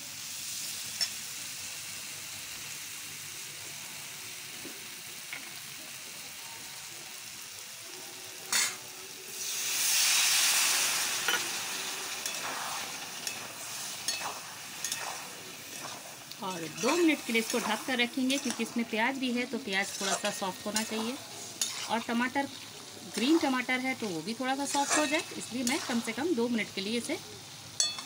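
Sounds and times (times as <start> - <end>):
food sizzling in a pan: 0.0 - 28.0
water hissing in hot pan: 0.0 - 28.0.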